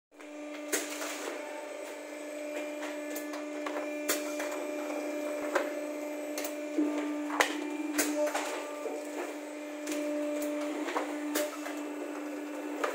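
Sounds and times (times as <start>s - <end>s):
machine humming: 0.2s - 12.9s.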